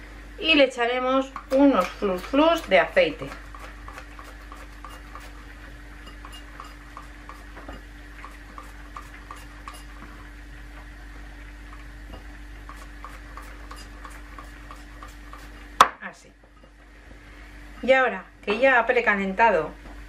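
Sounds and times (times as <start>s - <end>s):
air fryer humming: 0.0s - 20.0s.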